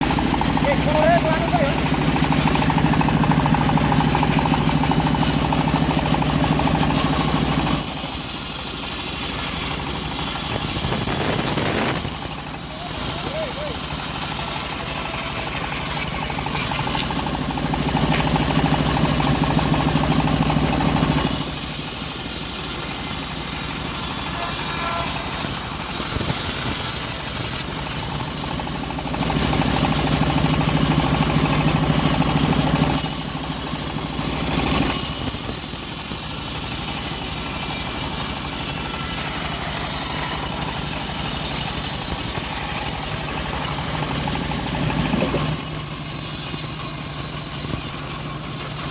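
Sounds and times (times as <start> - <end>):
bandsaw mill engine running: 0.0 - 48.9
saw blade cutting log: 0.0 - 48.9.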